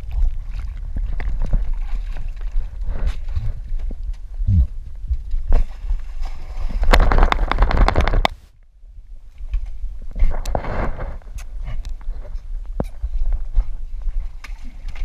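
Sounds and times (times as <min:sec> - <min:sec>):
camera rumble and rustling: 0:00.0 - 0:15.0.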